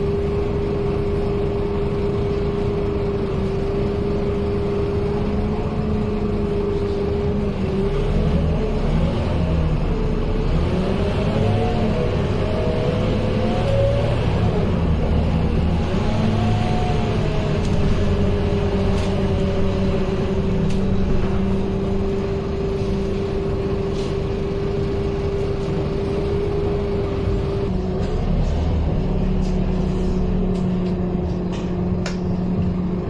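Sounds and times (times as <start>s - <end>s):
bus diesel engine rumble: 0.0s - 33.0s
drivetrain whine: 0.0s - 33.0s.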